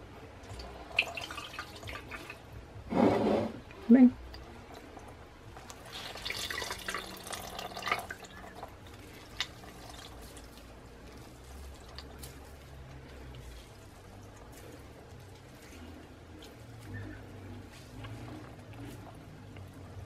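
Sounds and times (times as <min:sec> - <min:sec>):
liquid trickling and dripping: 0:00.3 - 0:02.6, 0:04.2 - 0:20.0.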